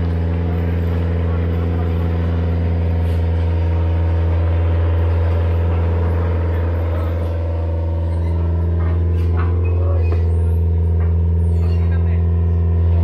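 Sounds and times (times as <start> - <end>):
heavy equipment engine droning: 0.0 - 13.0.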